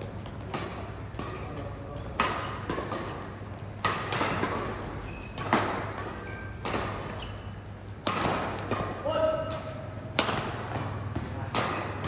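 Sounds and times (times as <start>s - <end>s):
racket hitting shuttlecock: 0.0s - 12.0s.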